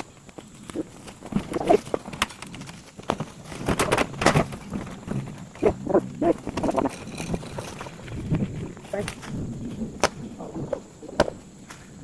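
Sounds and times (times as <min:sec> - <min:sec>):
knocks and clunks: 0:00.0 - 0:11.8.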